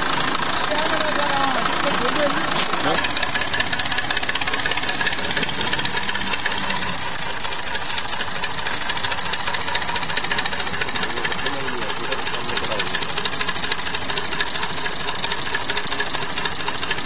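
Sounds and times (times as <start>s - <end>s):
tractor diesel engine knocking: 0.0s - 17.0s.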